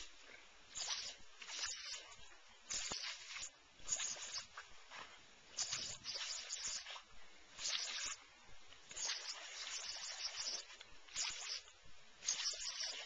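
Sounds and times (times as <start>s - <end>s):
sprinkler spray hissing: 0.7s - 4.7s, 5.5s - 8.2s, 8.8s - 13.0s.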